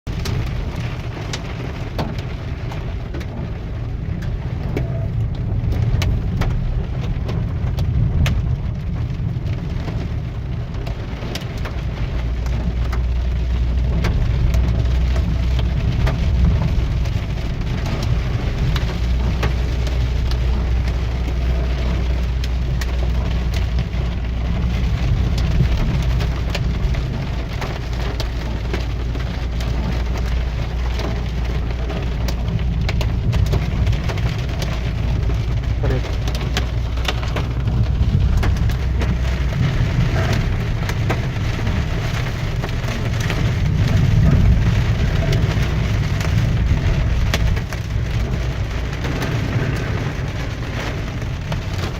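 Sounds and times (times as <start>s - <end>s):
car engine and road rumble: 0.0s - 51.9s
raindrops ticking on a car: 0.1s - 51.9s.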